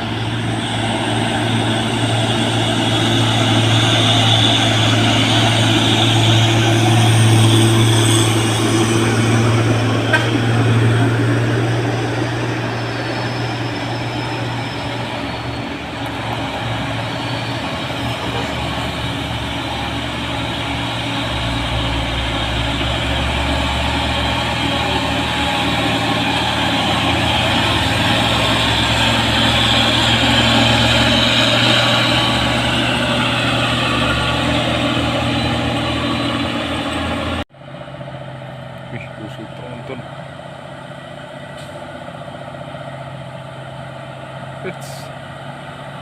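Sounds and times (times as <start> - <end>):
truck diesel engine running: 0.0 - 46.0.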